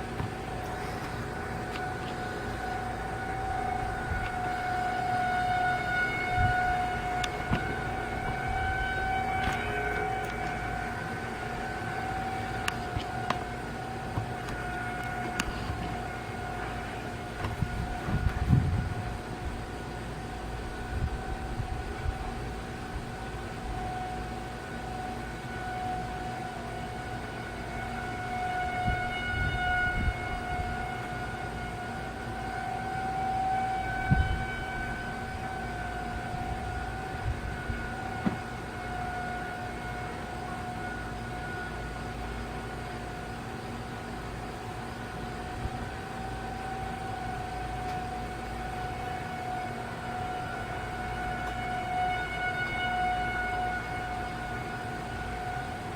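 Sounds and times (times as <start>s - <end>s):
siren steady tone: 0.0s - 55.9s.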